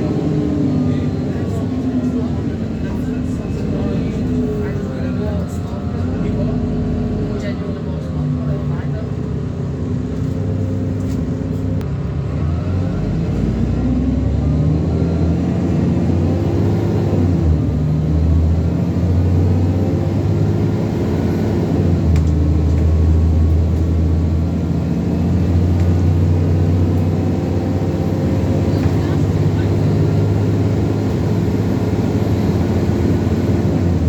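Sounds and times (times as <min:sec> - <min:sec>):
bus engine running: 0:00.0 - 0:34.0.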